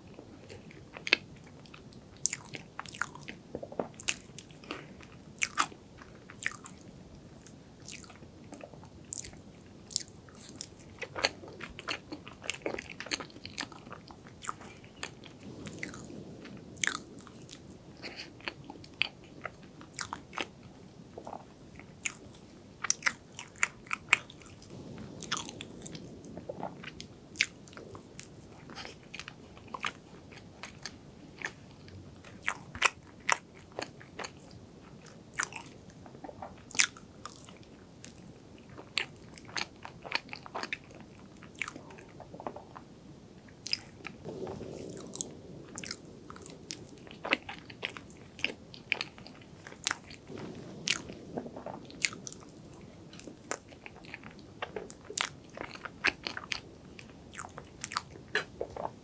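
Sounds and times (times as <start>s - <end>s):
close chewing with sharp clicks: 0.1s - 42.8s, 43.6s - 59.0s.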